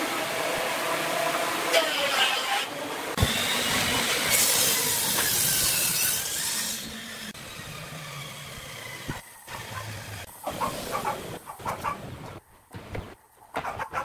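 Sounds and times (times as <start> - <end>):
table saw cutting wood: 0.0 - 11.4.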